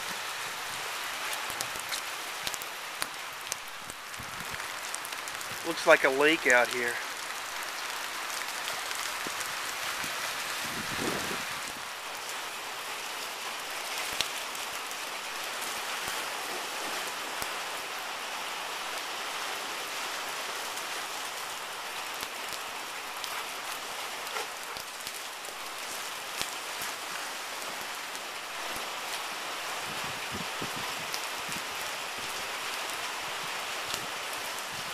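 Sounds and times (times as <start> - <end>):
rain falling on grass and water: 0.0 - 34.9.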